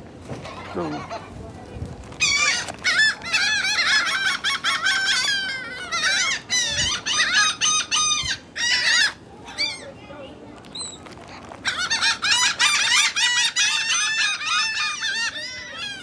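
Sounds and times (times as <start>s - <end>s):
gulls calling: 2.1s - 16.0s.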